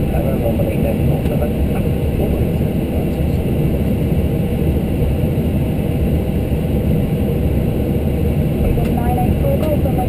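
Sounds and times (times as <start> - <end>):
aircraft engines rumbling: 0.0 - 10.0.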